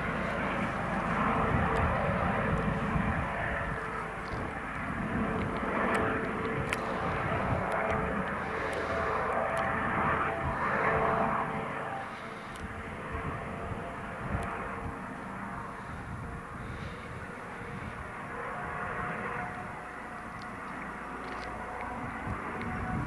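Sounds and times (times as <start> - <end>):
constant whine: 0.0 - 23.0
helicopter rotor and turbine noise: 0.0 - 23.0.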